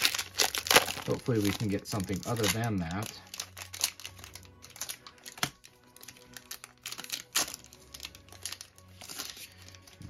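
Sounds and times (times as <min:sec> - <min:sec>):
plastic foil wrapper crinkling: 0:00.0 - 0:10.0.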